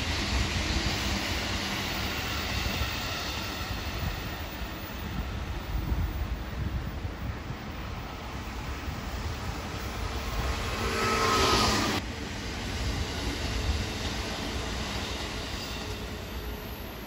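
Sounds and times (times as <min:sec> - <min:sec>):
passing train rush and whine: 0:00.0 - 0:17.0
train wheels rumbling: 0:00.0 - 0:17.0.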